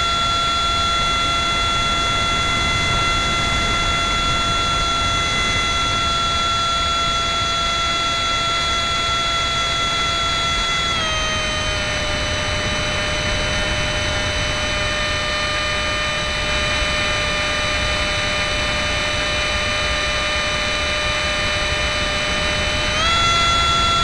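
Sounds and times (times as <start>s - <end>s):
electric fan motor whine: 0.0s - 24.0s.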